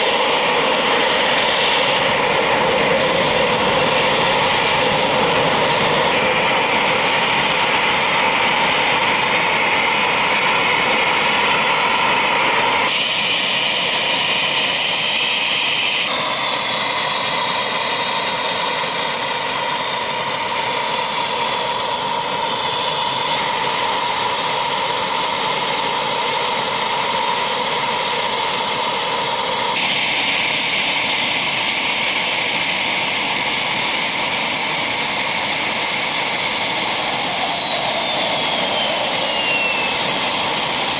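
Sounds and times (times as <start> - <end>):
jet engines whining: 0.0 - 40.9.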